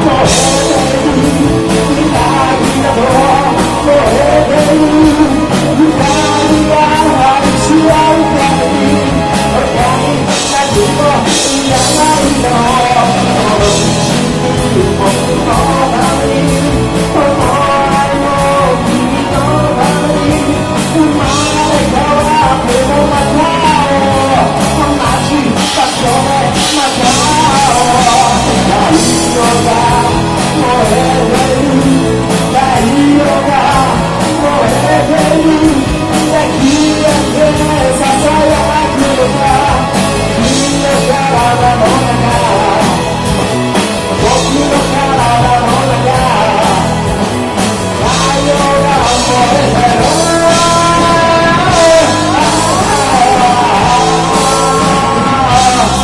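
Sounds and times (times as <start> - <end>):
lead singer singing: 0.0 - 56.0
live rock band playing: 0.0 - 56.0.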